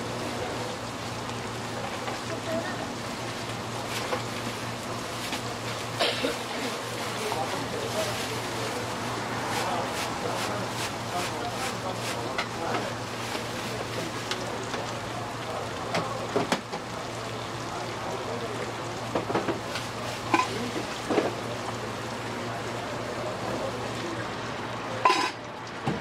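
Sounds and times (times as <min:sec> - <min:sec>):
food sizzling on griddle: 0:00.0 - 0:24.0, 0:25.0 - 0:26.0.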